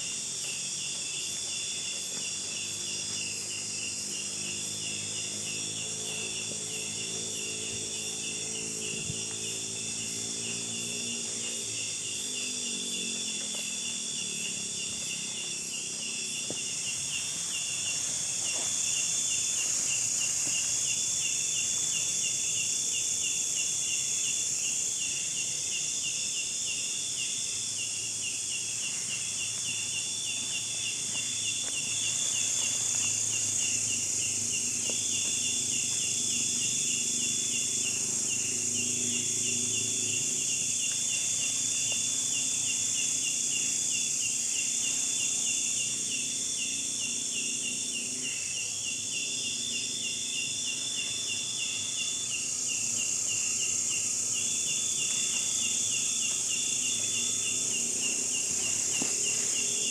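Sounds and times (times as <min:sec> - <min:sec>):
high-pitched insect buzz: 0:00.0 - 0:59.9
pulsing insect trill: 0:00.0 - 0:59.9.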